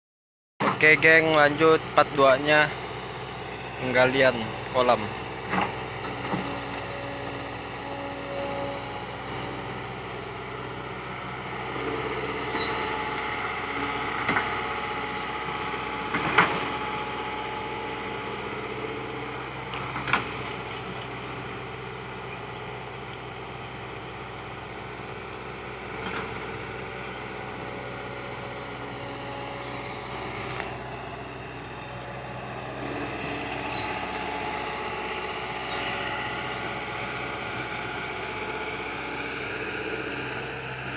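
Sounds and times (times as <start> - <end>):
excavator diesel engine running: 0.6 - 40.9.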